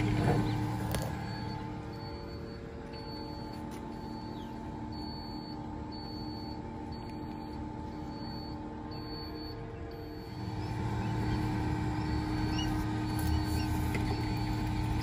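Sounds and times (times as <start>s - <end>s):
incubator fan and motor hum: 0.0s - 15.0s.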